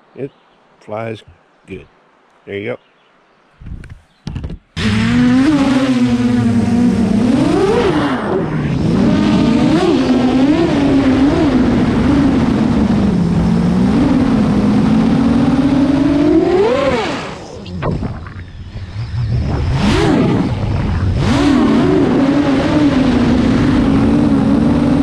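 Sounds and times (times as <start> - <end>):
quadcopter motors buzzing: 4.8 - 25.0.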